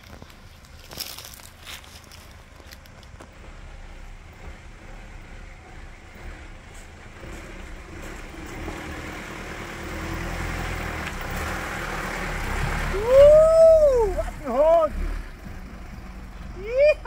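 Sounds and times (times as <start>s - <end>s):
vehicle engine pulling uphill: 0.0s - 17.0s.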